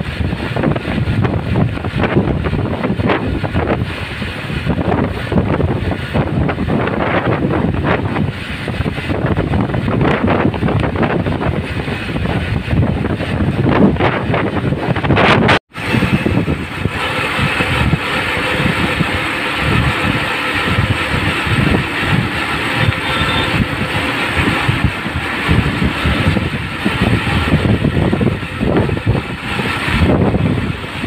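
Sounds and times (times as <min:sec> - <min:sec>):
motorcycle road and engine noise: 0:00.0 - 0:31.0
wind buffeting microphone: 0:00.0 - 0:31.0.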